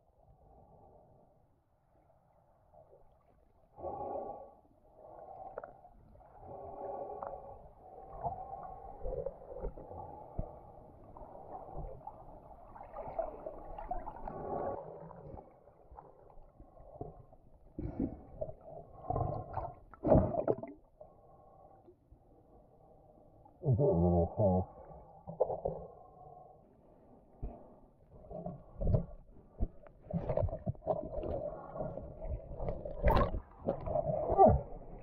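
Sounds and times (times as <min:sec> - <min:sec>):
muffled water sloshing and gurgling: 0:00.0 - 0:23.8, 0:24.6 - 0:35.0.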